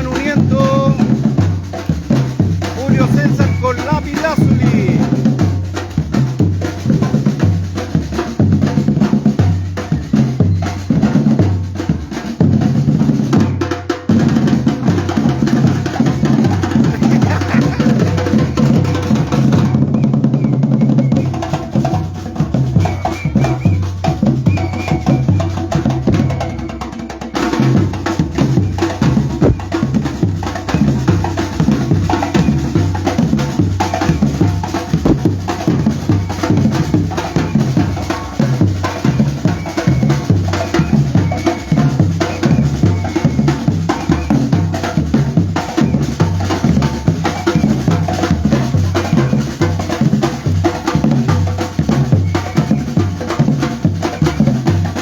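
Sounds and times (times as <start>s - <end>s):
bass drums: 0.0s - 55.0s
snare drums: 0.0s - 55.0s.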